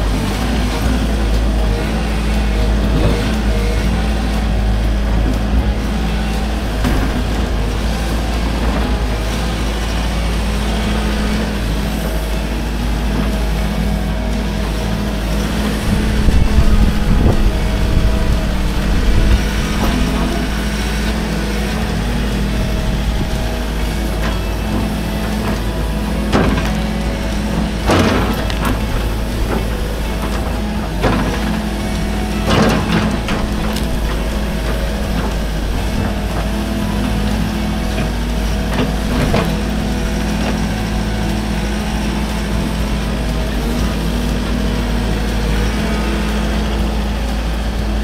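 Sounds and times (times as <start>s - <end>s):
excavator diesel engine running: 0.0s - 48.0s
hydraulics working: 0.0s - 48.0s.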